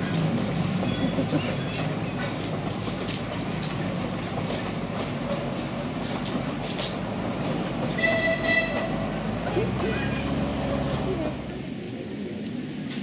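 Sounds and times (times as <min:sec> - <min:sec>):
diesel locomotive engine hum: 0:00.0 - 0:13.0
wheels clicking on rail joints: 0:00.0 - 0:13.0.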